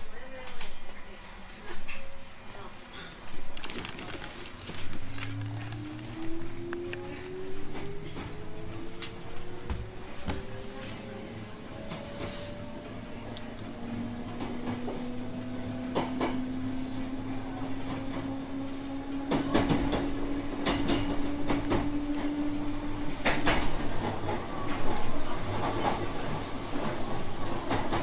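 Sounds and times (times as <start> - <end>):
train running gear hum: 0.0 - 28.0
train wheels clacking: 4.6 - 28.0.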